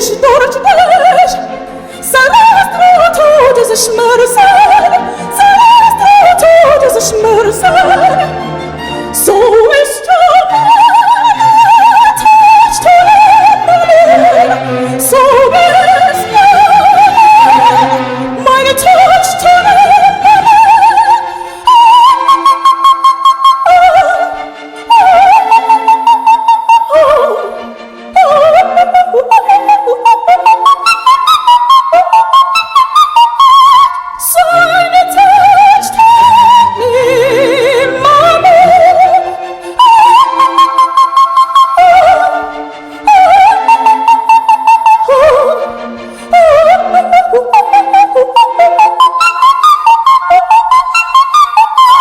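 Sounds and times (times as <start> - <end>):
woman singing operatically: 0.0 - 8.4, 9.1 - 52.0.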